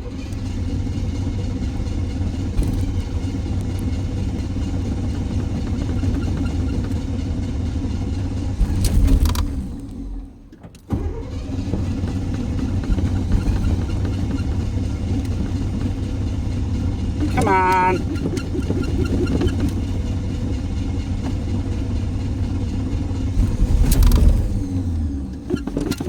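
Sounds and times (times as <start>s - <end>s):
car engine stalling and restarting: 0.0s - 26.0s.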